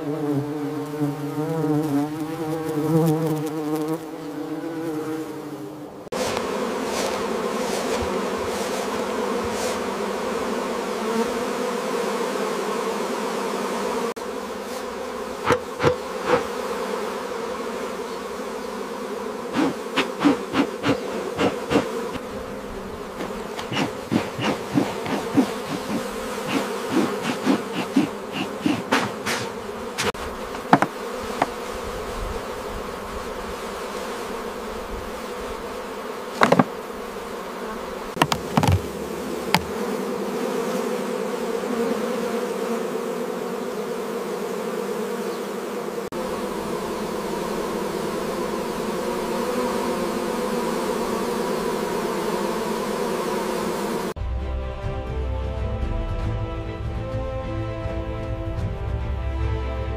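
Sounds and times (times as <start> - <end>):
bees buzzing: 0.0 - 54.2.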